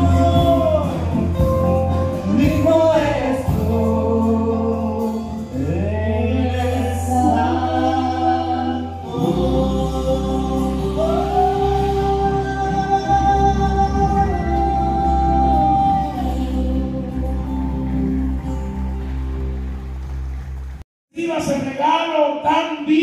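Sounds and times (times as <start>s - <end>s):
voices singing held notes: 0.0s - 18.6s
steady bass line: 0.0s - 20.8s
live band through speakers: 0.0s - 23.0s.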